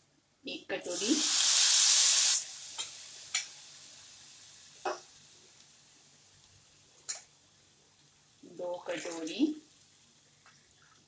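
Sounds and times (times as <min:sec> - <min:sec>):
water hissing in hot pan: 0:00.8 - 0:11.0.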